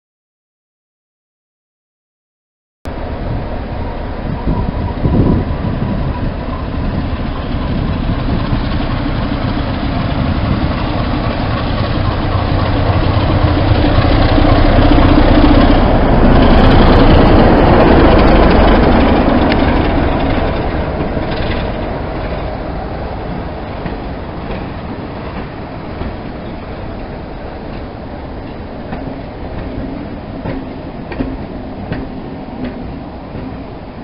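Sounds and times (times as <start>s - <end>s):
diesel locomotive engine drone: 2.9s - 34.0s
train wheels on rails: 2.9s - 34.0s.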